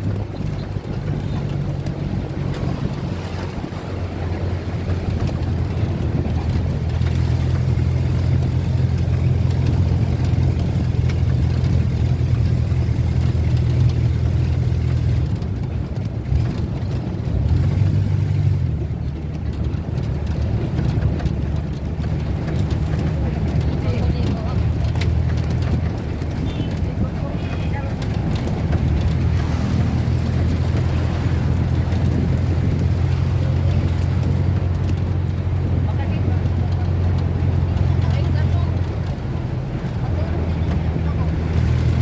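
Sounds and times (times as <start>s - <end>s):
road and wind noise: 0.0s - 42.0s
vehicle engine running: 0.0s - 42.0s.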